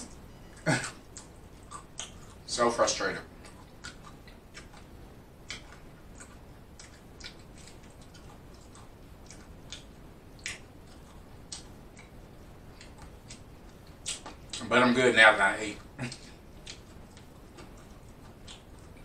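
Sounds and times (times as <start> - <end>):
person chewing food: 0.0 - 2.5, 3.3 - 14.6, 15.8 - 19.0.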